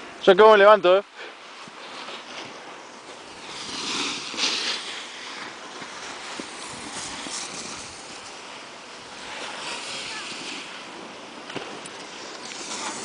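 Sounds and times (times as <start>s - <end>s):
snowboard edges scraping on snow: 0.3s - 13.0s.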